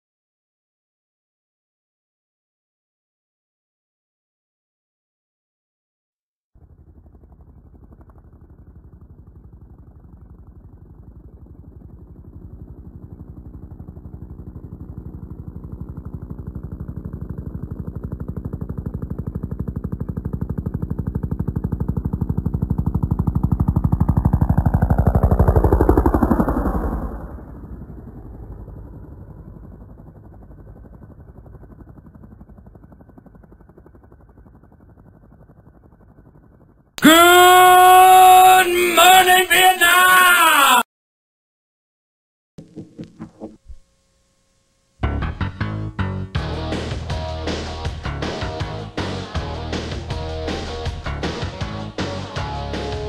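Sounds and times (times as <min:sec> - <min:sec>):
helicopter rotor beat: 0:06.6 - 0:40.8, 0:42.6 - 0:44.0, 0:44.9 - 0:53.0.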